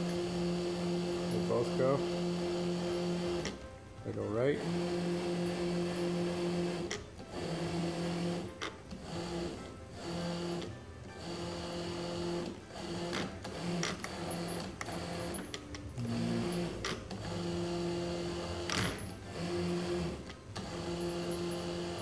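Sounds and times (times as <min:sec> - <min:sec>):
wheelchair motors whirring: 0:00.0 - 0:22.0.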